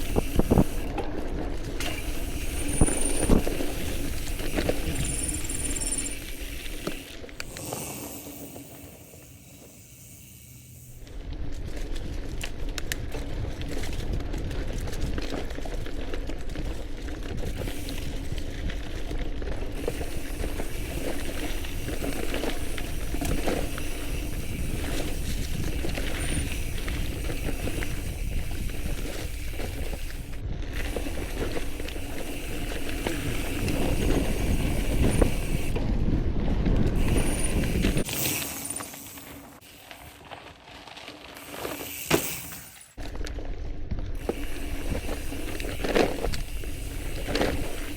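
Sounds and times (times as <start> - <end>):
bike chain rattling and clicking: 0.0 - 40.4, 41.0 - 47.9
bicycle tyre rumble: 0.0 - 47.9.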